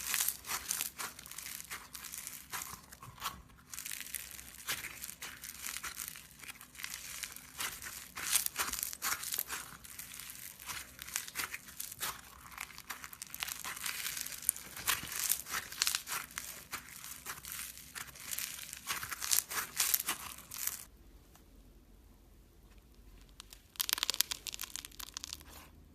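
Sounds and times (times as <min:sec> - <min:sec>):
slime crackling and popping: 0:00.0 - 0:20.9, 0:22.9 - 0:25.7.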